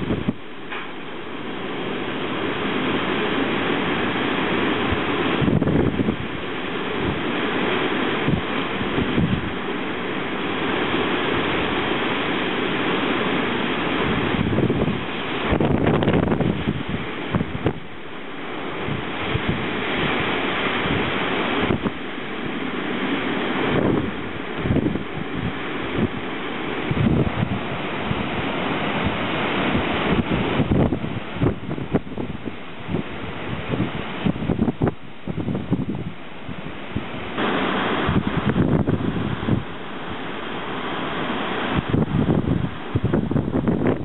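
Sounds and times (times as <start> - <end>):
heavy rain: 0.0 - 44.0
strong wind gusts: 0.0 - 44.0.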